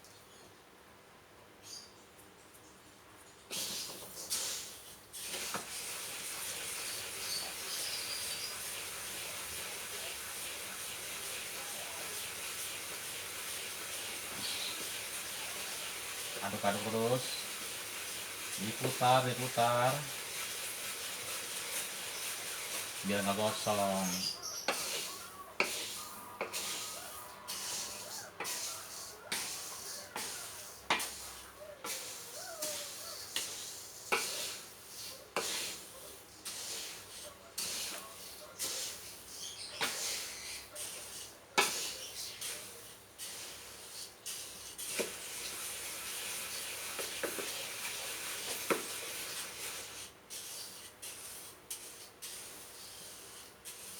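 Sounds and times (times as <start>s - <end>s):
dry grains rustling in a pan: 3.5s - 53.9s
gas stove flame hissing: 3.5s - 53.9s.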